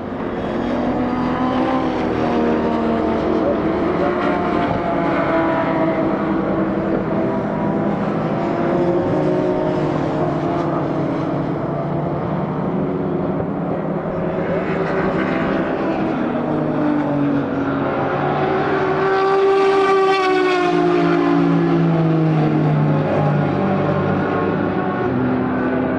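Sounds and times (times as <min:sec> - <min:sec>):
racing car engines passing: 0:00.0 - 0:25.9.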